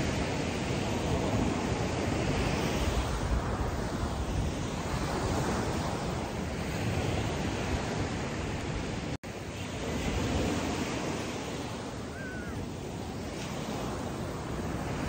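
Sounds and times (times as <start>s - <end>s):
ocean waves washing on beach: 0.0s - 15.0s
wind on microphone: 0.0s - 15.0s.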